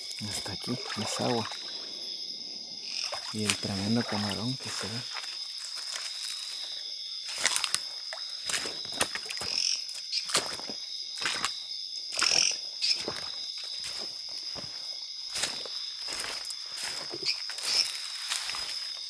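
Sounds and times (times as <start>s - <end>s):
insects and frogs calling: 0.0s - 19.0s
footsteps on wet leafy ground: 3.2s - 19.0s.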